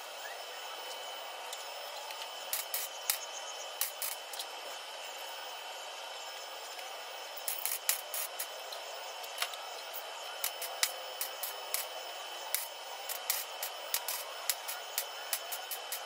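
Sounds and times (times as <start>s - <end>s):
welding hiss: 0.0s - 16.0s
welding crackles and pops: 0.9s - 4.6s, 6.4s - 16.0s.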